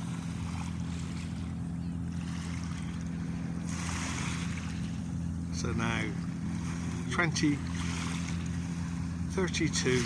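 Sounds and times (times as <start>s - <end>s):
boat engine drone: 0.0s - 10.0s
small waves washing in: 0.0s - 10.0s.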